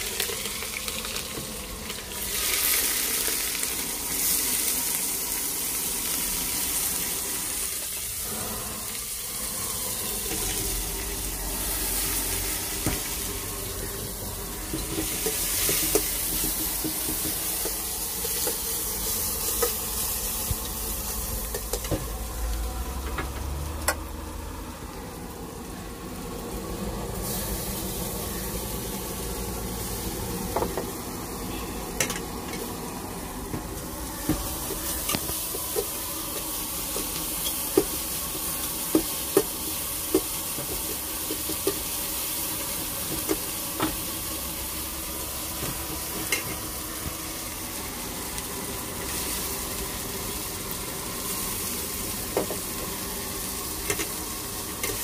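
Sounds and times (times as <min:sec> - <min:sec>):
food sizzling in frying pan: 0:00.0 - 0:55.0.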